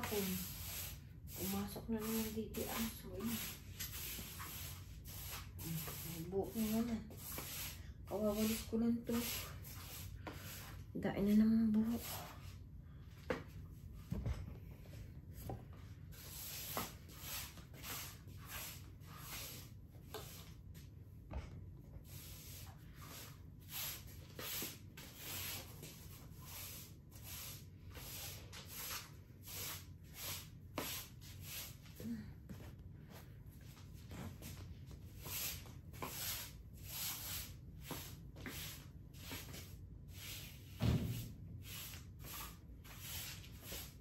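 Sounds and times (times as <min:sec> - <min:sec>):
broom sweeping floor: 0:00.0 - 0:44.0.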